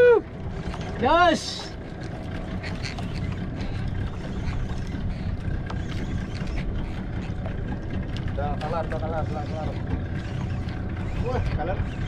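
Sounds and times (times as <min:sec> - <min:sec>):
boat engine rumble: 0:00.0 - 0:12.0
wind and water around hull: 0:00.0 - 0:12.0.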